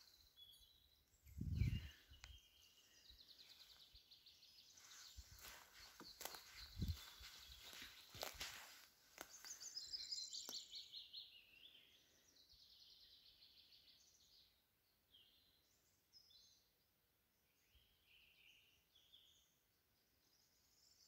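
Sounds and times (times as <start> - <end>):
small bird singing: 0.0 - 21.0.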